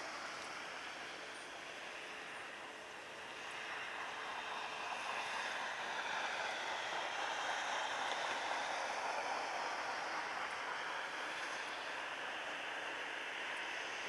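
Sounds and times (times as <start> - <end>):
jet engines rushing hiss: 0.0 - 14.0.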